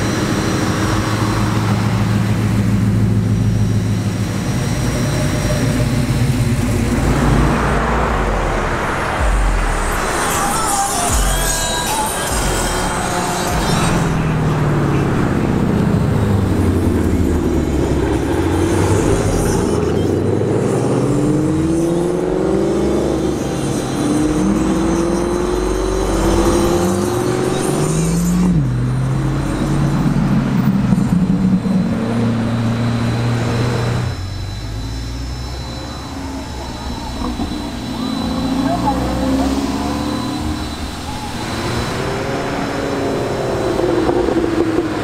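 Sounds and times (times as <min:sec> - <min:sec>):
cars driving past: 0:00.0 - 0:45.0.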